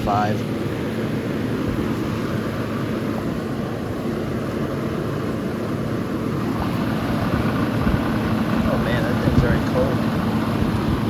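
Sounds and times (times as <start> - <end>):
compressor low hum: 0.0 - 11.0
air rushing from fans: 0.1 - 11.0.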